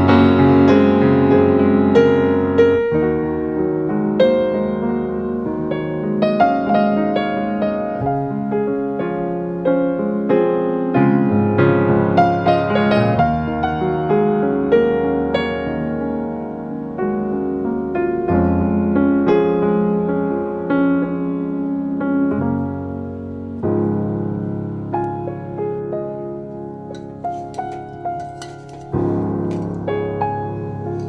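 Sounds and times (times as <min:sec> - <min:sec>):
soft slow piano music: 0:00.0 - 0:31.0.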